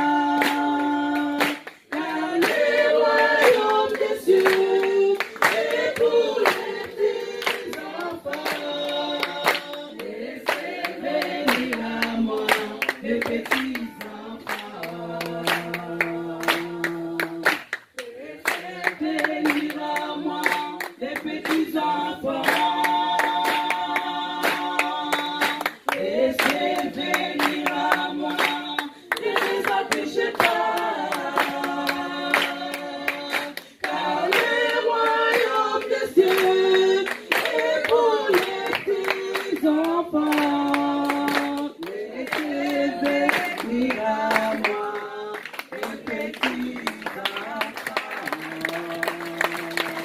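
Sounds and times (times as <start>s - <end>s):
congregation singing: 0.0s - 50.0s
rhythmic hand clapping: 0.0s - 50.0s.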